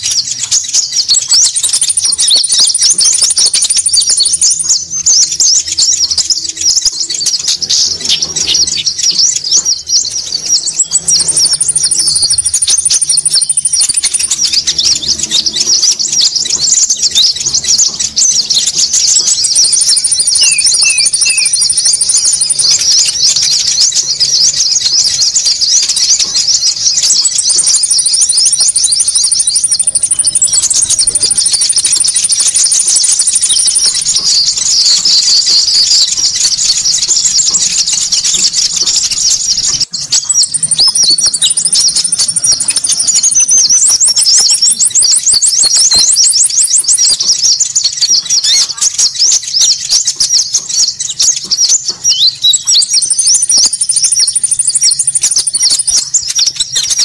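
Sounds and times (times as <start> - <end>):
high-pitched bird chirps: 0.0 - 57.0.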